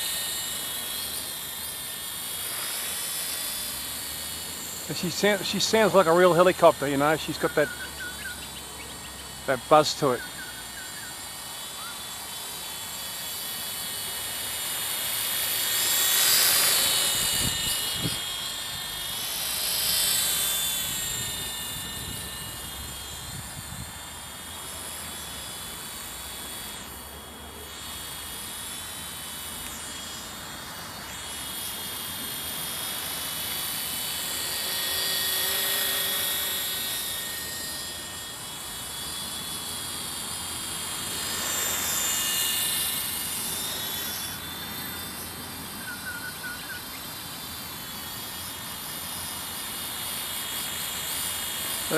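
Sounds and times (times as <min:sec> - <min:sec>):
toy helicopter rotor buzzing: 0:00.0 - 0:51.9.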